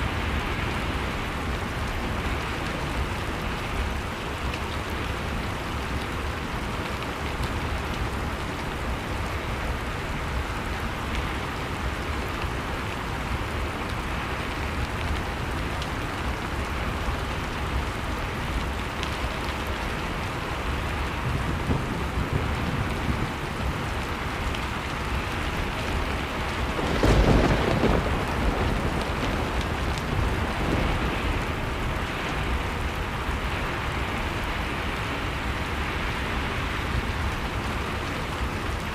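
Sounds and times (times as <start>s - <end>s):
blizzard wind: 0.0s - 38.9s.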